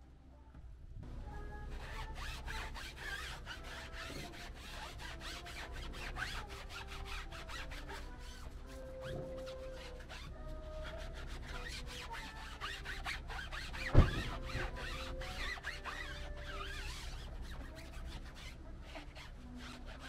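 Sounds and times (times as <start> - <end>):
soft background music: 0.0 - 20.0
scrubbing strokes on car: 1.6 - 20.0.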